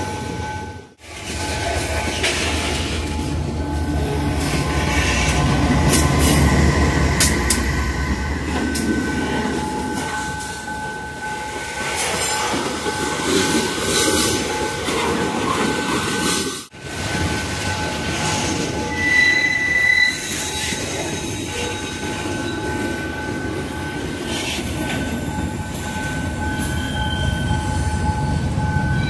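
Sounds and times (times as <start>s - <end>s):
diesel locomotive engine rumble: 0.0s - 29.0s
sharp train clanks: 0.0s - 29.0s
steel wheels squealing on rails: 0.0s - 29.0s.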